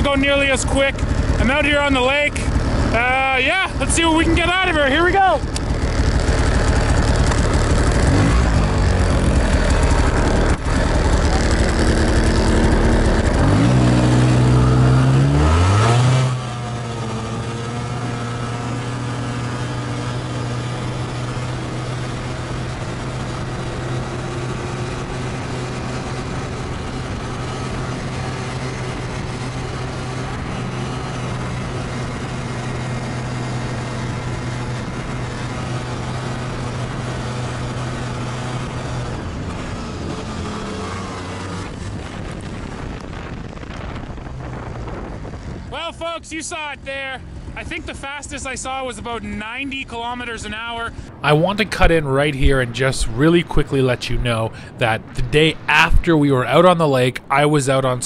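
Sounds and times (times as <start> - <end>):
snowmobile engine at full throttle: 0.0 - 58.0.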